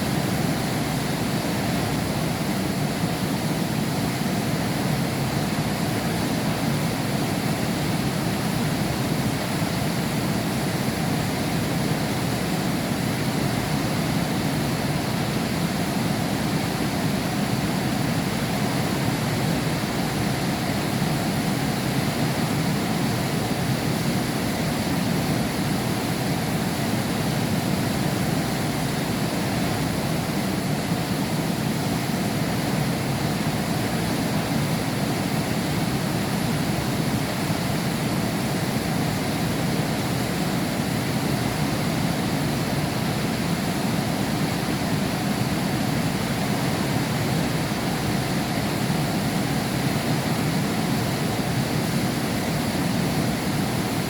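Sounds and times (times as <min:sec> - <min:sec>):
heavy rain behind a window: 0:00.0 - 0:54.0.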